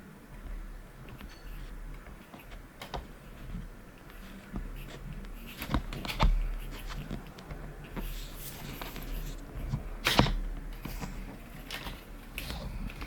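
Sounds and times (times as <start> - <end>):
plastic parts clicking and knocking: 0.4 - 13.0.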